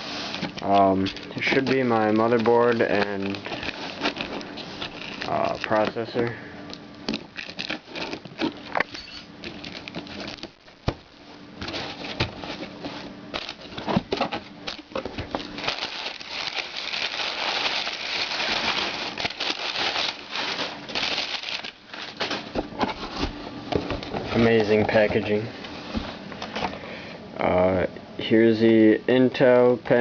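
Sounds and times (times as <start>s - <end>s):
packing material rustling and crinkling: 0.0s - 26.7s.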